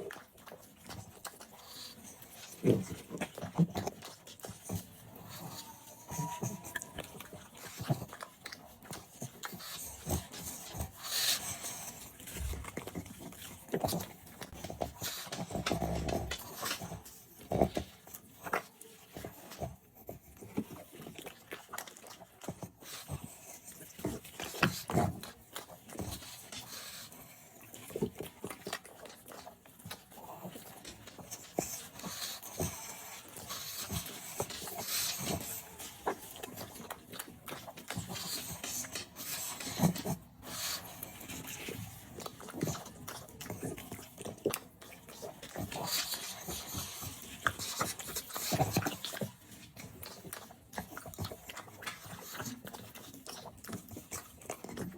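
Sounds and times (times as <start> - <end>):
animal chewing and smacking: 0.0 - 54.9.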